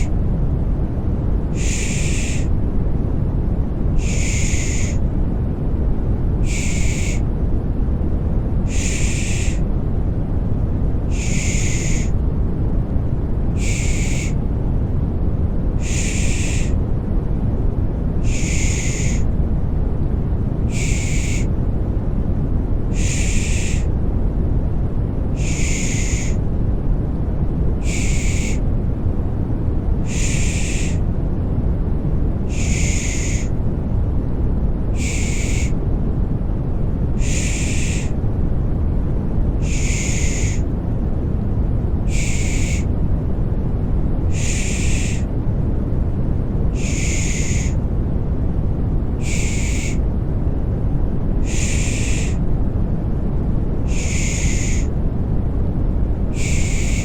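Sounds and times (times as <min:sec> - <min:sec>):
rumbling white noise: 0:00.0 - 0:57.0.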